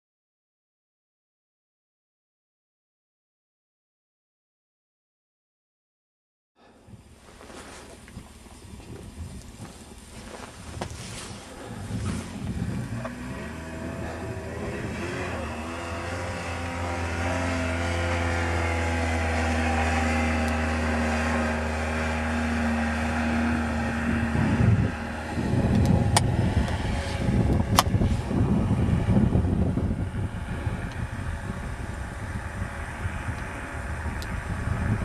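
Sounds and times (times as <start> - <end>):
wind buffeting microphone: 6.6 - 35.0
quad bike engine running: 6.8 - 35.0.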